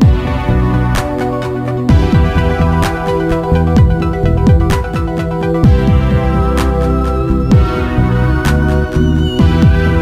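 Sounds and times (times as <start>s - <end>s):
electronic music with deep bass: 0.0s - 10.0s
falling bass sweep: 1.9s - 10.0s.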